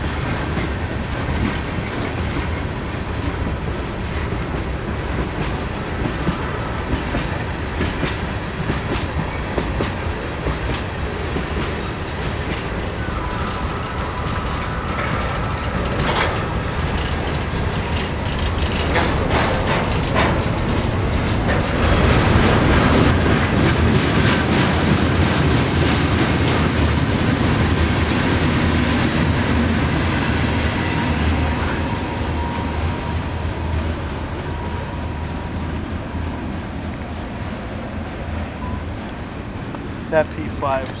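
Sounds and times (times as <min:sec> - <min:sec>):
clickety-clack over rail joints: 0:00.0 - 0:41.0
freight train wheels rumbling: 0:00.0 - 0:41.0.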